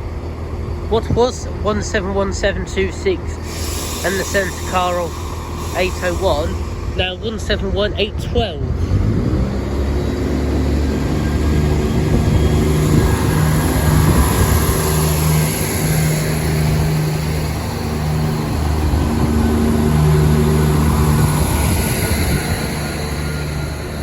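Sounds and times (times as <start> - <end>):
diesel train engines droning: 0.0 - 24.0.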